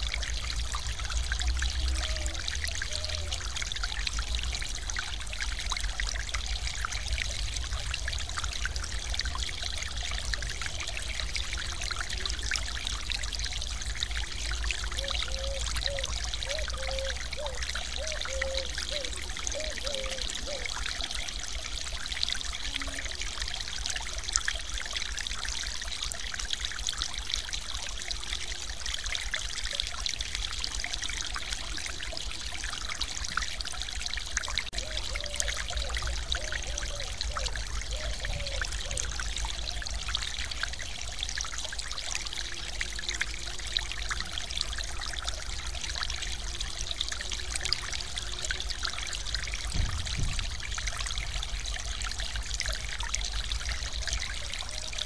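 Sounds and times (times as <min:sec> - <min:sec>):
stream water splashing over ledge: 0:00.0 - 0:55.0.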